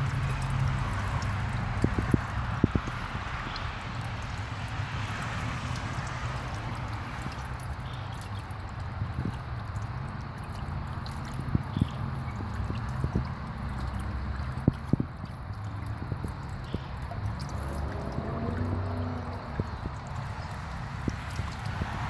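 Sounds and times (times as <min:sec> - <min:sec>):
fountain water trickling: 0:00.0 - 0:22.0.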